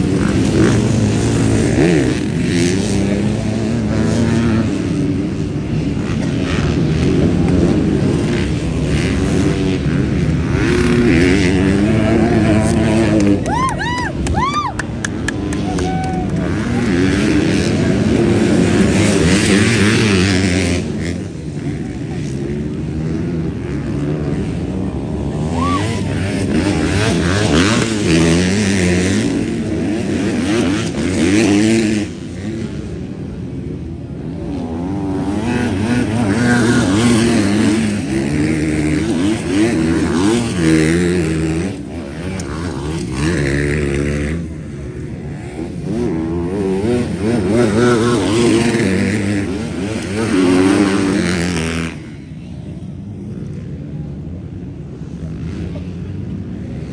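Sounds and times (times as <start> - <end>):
motocross bikes engines revving: 0.0 - 56.9.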